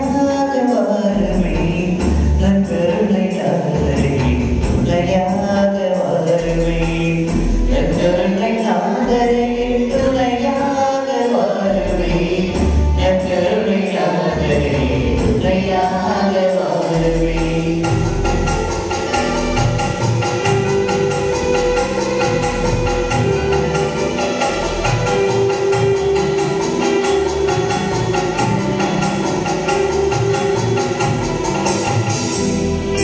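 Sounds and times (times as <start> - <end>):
devotional hymn singing: 0.0 - 31.2, 31.8 - 33.0
instrumental accompaniment: 0.0 - 33.0.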